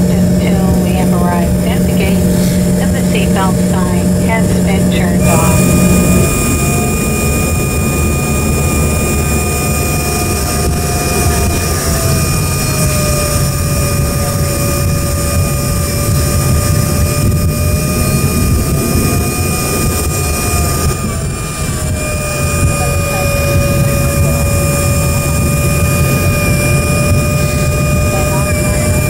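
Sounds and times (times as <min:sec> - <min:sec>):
dense engine rumble: 0:00.0 - 0:29.0
jet engine whine: 0:00.0 - 0:29.0.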